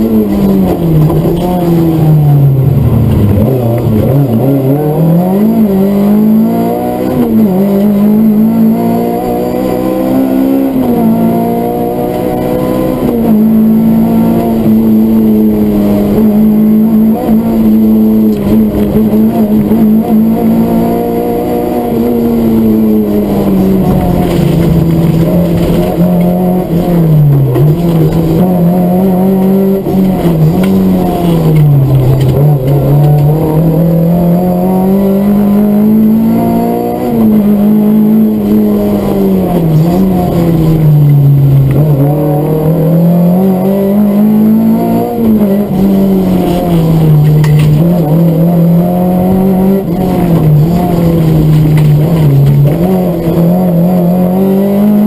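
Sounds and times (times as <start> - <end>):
rally car engine revving: 0.0 - 55.0
road and tyre noise: 0.0 - 55.0.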